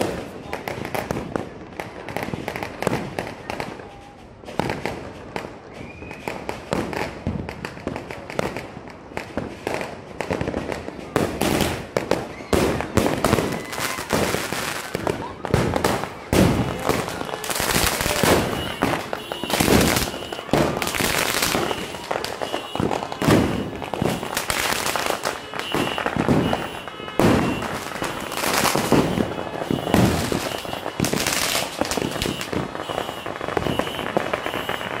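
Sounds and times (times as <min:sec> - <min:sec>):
fireworks and firecrackers banging: 0:00.0 - 0:35.0.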